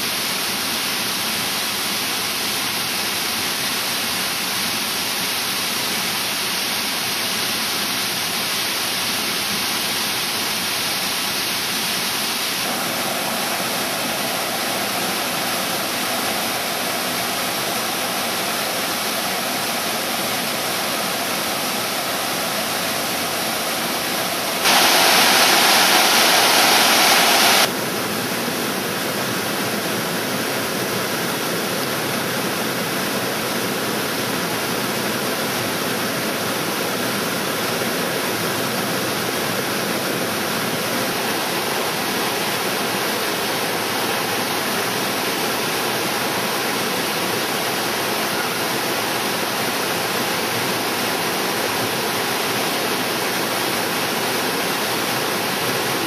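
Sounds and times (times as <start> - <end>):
waterfall rushing over cascades: 0.0 - 56.0.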